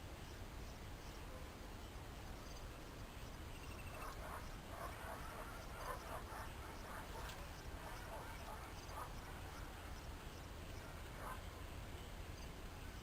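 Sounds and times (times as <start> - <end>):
faint high chirping: 0.2 - 13.0.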